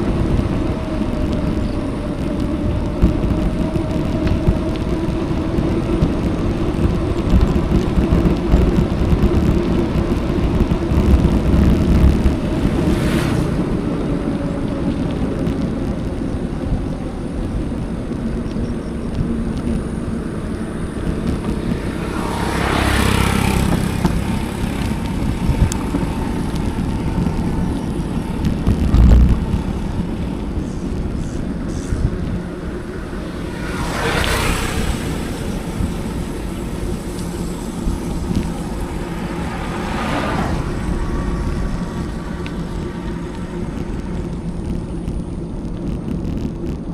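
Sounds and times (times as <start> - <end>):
road and tyre noise: 0.0 - 46.9
wind rumble on microphone: 0.0 - 46.9.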